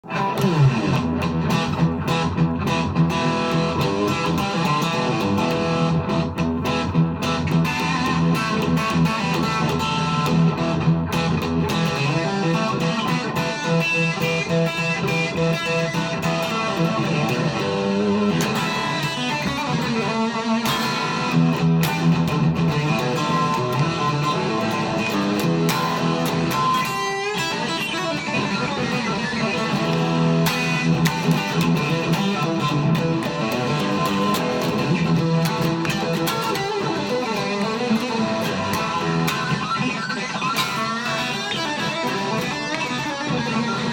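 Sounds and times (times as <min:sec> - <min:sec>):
electric guitar chords and notes: 0:00.0 - 0:43.9.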